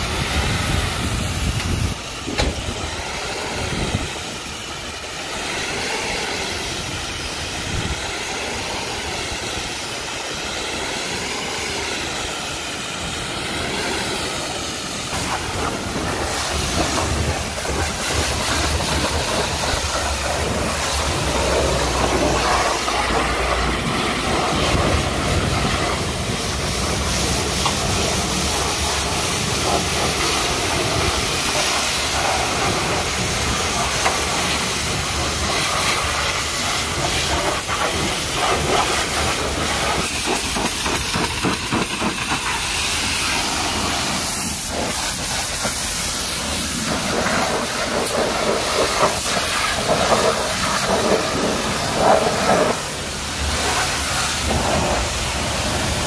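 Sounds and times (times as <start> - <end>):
pressure washer spraying metal: 0.0 - 56.0.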